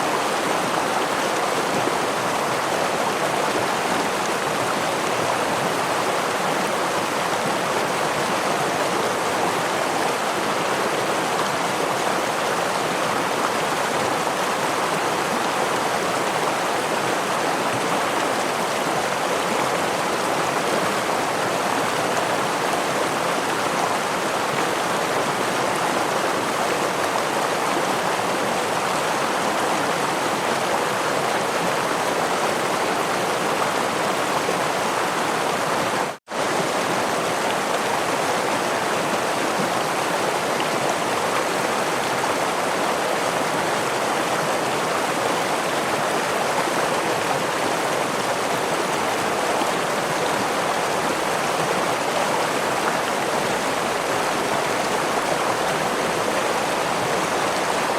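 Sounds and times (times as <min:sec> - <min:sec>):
water flowing over rocks: 0:00.0 - 0:57.9.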